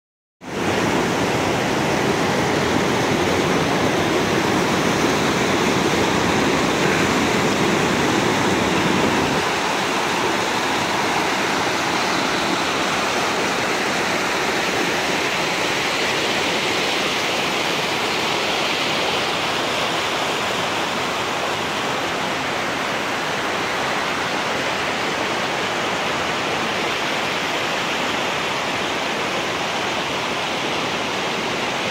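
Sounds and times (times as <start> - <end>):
running water rushing: 0.4 - 31.9.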